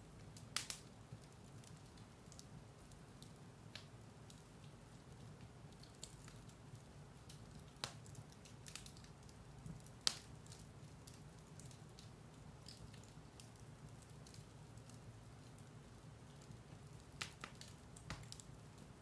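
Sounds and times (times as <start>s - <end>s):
fire crackling and popping: 0.0s - 19.0s
low steady hiss of fire: 0.0s - 19.0s.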